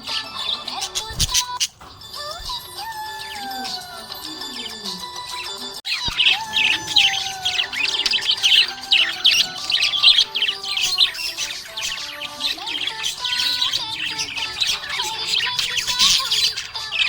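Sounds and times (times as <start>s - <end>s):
budgerigars chirping: 0.0s - 2.0s, 3.2s - 17.0s
music: 0.0s - 17.0s.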